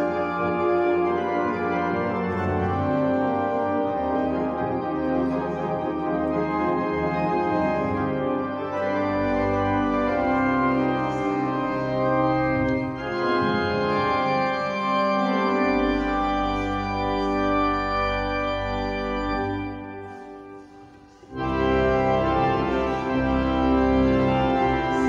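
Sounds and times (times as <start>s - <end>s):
deep organ bass notes: 0.0s - 25.0s
organ playing full chords: 0.0s - 25.0s.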